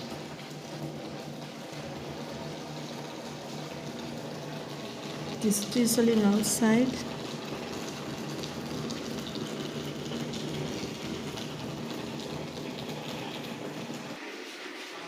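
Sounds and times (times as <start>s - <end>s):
raindrop ticks: 0.0s - 14.1s
rain hissing: 0.0s - 15.0s.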